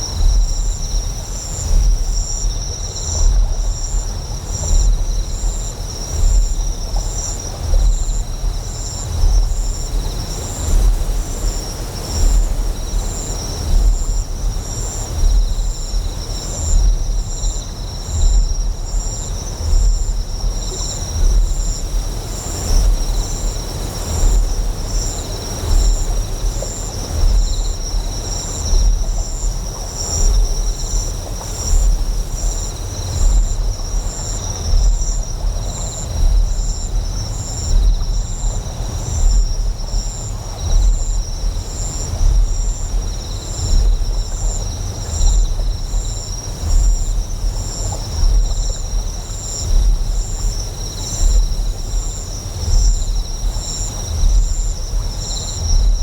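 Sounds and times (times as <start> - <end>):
deep pulsing generator hum: 0.0 - 56.0
flowing water: 3.0 - 56.0.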